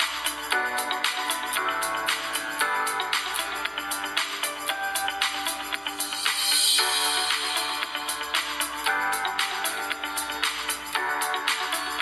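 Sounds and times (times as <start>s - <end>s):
background music with percussive beat: 0.0s - 12.0s.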